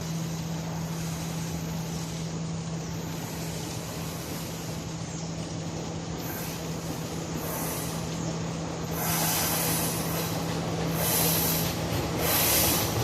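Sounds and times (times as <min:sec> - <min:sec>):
train running: 0:00.0 - 0:13.0.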